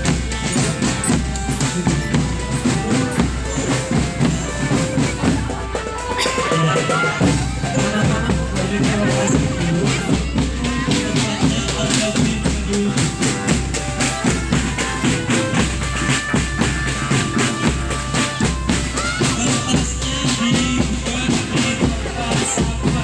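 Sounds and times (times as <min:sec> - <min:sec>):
marching drum band playing: 0:00.0 - 0:23.0.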